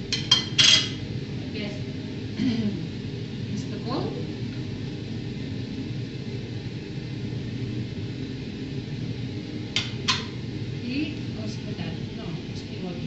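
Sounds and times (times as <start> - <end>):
steady low rumble: 1.0 - 13.0.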